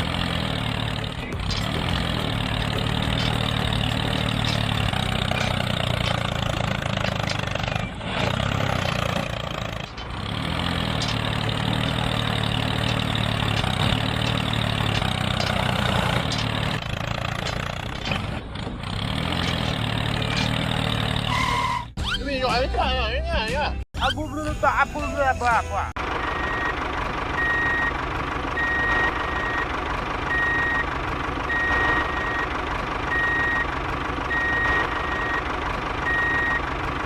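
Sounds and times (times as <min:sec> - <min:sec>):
small tractor motor running: 0:00.0 - 0:21.8, 0:26.0 - 0:37.0.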